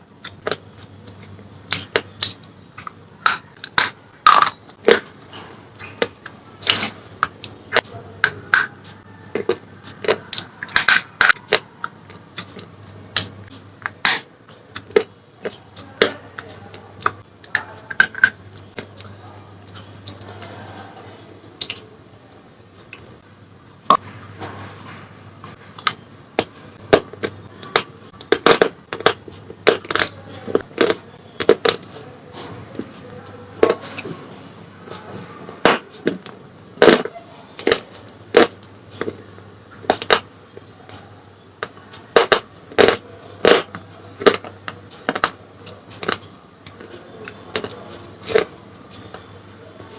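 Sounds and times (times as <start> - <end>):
pencils being bitten and chewed: 0.1 - 23.3, 23.9 - 34.3, 34.9 - 49.9.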